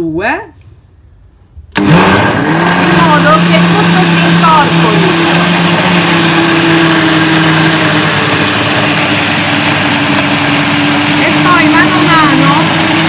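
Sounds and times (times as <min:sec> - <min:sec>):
blender mixing thick batter: 0:01.8 - 0:13.0.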